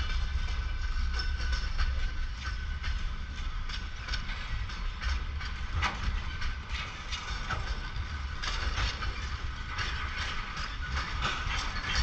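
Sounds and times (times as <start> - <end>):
freight train rolling past: 0.0 - 12.0
wheels clicking over rail joints: 0.0 - 12.0.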